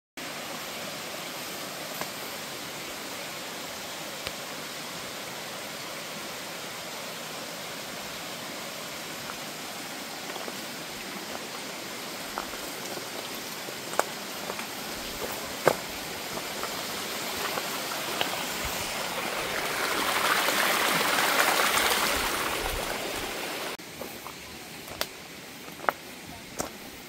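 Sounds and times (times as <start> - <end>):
stream water rushing: 0.2 - 27.0.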